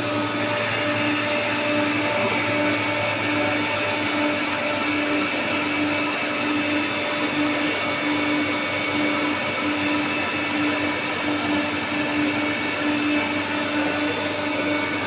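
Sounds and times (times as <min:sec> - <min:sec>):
drilling machine whirring: 0:00.0 - 0:15.0.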